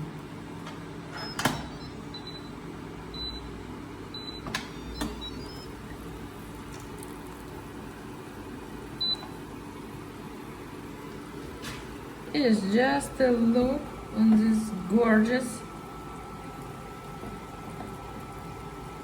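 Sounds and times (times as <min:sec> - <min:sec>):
steady low hum: 0:01.8 - 0:19.0.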